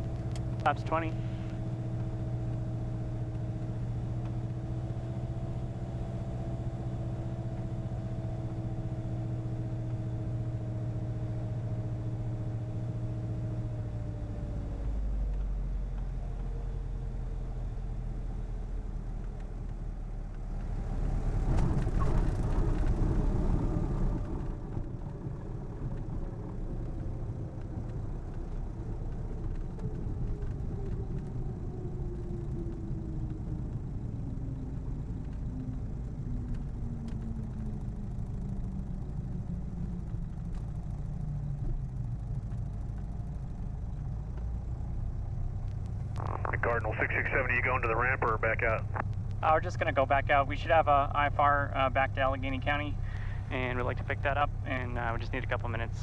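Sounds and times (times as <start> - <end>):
small plane engine at low power: 0.0 - 56.0.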